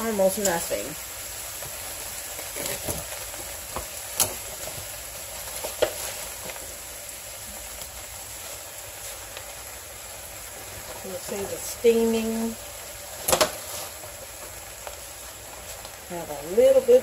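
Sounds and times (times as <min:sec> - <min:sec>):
spinach sizzling in a skillet: 0:00.0 - 0:17.0.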